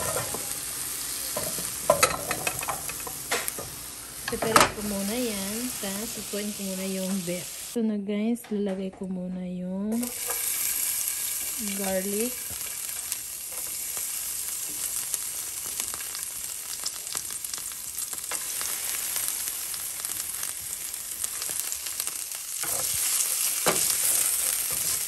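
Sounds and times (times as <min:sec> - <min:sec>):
garlic sizzling in hot oil: 0:00.0 - 0:07.8, 0:09.9 - 0:25.0.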